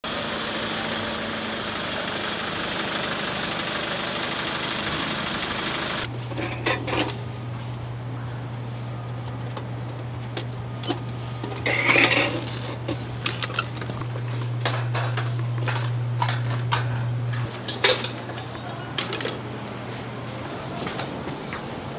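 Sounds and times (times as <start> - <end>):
steady outdoor noise: 0.1 - 21.9.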